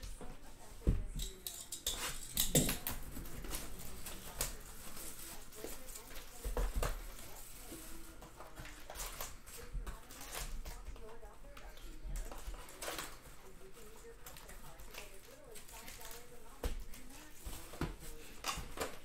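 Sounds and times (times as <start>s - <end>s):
plastic wrap crinkling and tearing: 2.7s - 19.0s.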